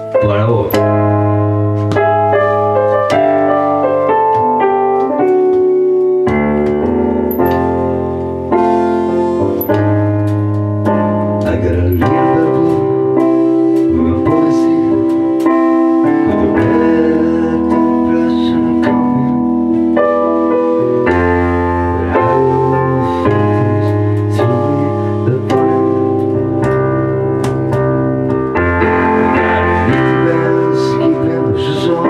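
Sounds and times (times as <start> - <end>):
bass guitar notes: 0.0 - 32.0
piano chords: 0.0 - 32.0.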